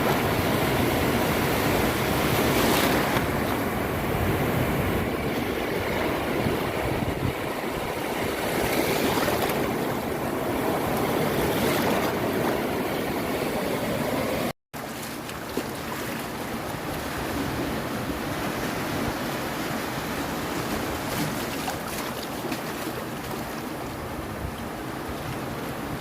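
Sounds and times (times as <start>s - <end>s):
ocean waves on a beach: 0.0s - 26.0s.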